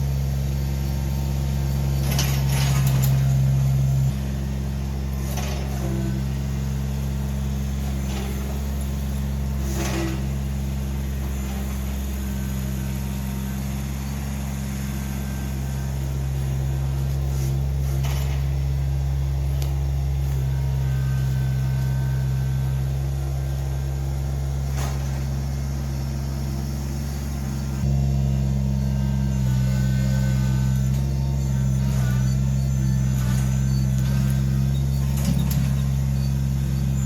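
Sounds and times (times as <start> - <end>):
machine engine running: 0.0 - 37.0.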